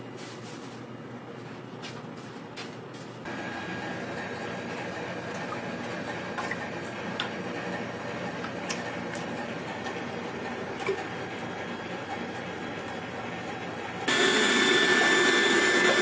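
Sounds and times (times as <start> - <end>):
kitchen machinery humming: 0.0 - 16.0.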